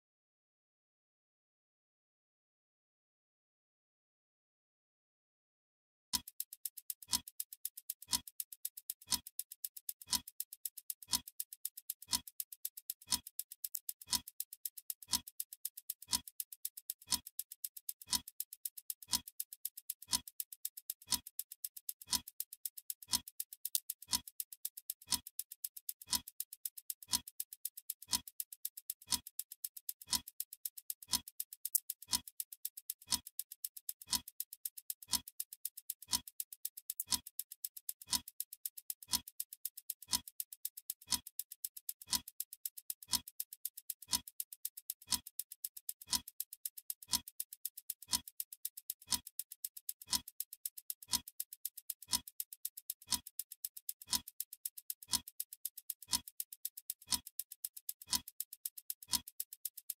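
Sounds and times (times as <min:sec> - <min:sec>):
clock ticking: 0:06.2 - 1:00.0
light high ticks: 0:06.2 - 1:00.0.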